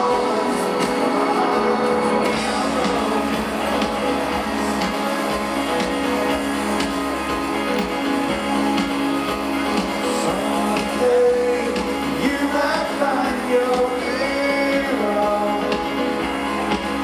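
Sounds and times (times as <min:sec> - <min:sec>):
guitars playing: 0:00.0 - 0:17.0
person singing: 0:00.0 - 0:17.0.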